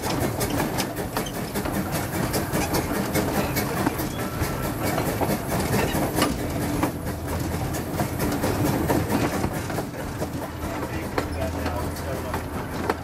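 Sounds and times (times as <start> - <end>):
sharp irregular clicks and knocks: 0.0 - 13.0
steam locomotive running: 0.0 - 13.0.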